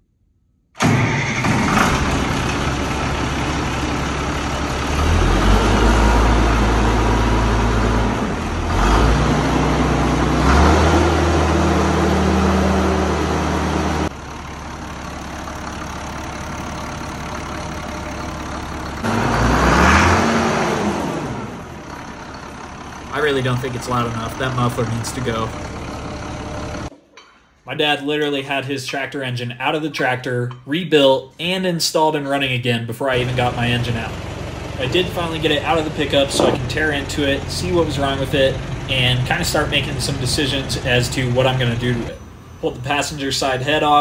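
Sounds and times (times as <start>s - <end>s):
tractor diesel engine revving: 0.8s - 26.9s, 33.1s - 44.0s.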